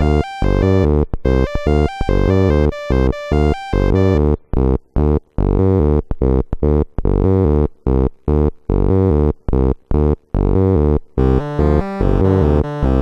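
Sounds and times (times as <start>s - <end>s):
buzzy staccato electronic notes: 0.0s - 13.0s.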